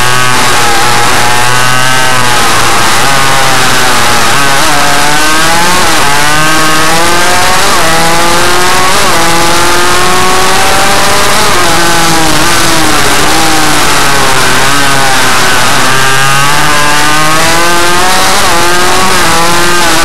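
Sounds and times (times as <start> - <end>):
small motorcycle engine revving: 0.0 - 20.0.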